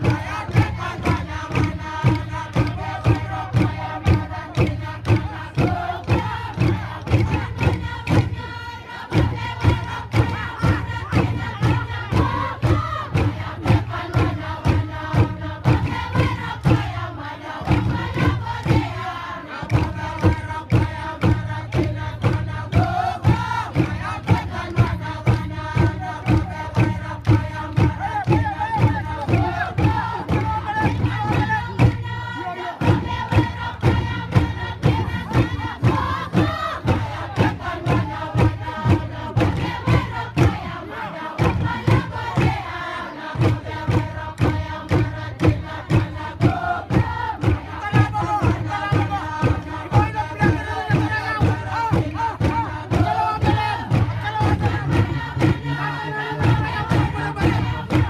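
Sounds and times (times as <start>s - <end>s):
group of voices chanting: 0.0s - 58.0s
steady drum beat: 0.0s - 58.0s.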